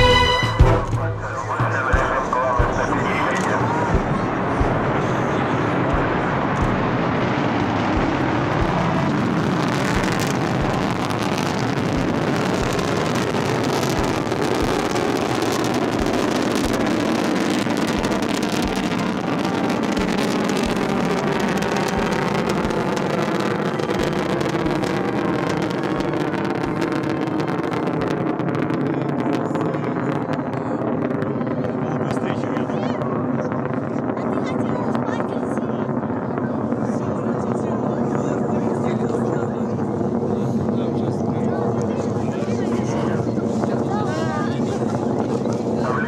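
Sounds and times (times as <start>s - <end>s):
rocket engines roaring: 0.0s - 46.0s
wind buffeting microphone: 1.2s - 46.0s.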